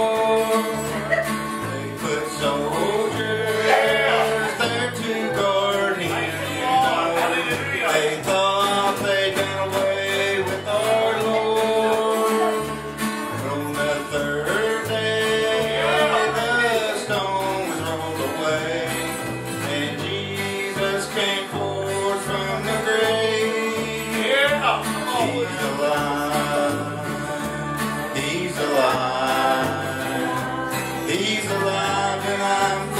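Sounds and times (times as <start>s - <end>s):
acoustic guitar strumming: 0.0s - 32.9s
bass guitar playing low notes: 0.0s - 32.9s
man singing: 0.0s - 32.9s.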